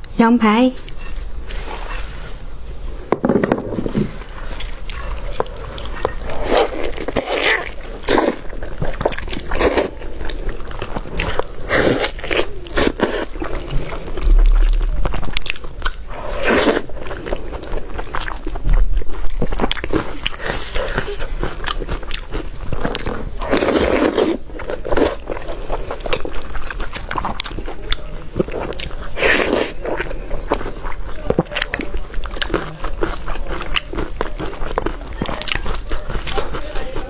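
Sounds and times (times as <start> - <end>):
chewing and biting meat: 4.3 - 37.0.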